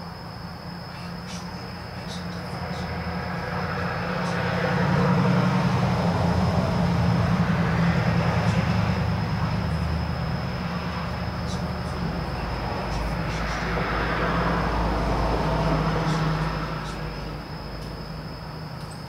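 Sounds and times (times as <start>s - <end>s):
insect trilling: 0.0s - 19.0s
heavy vehicle passing: 2.6s - 18.7s.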